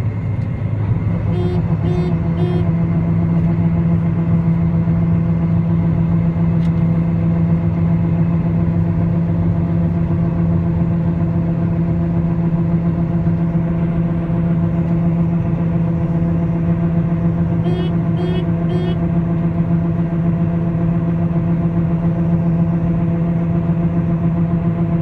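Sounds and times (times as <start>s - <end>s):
combine harvester engine droning: 0.0s - 25.0s.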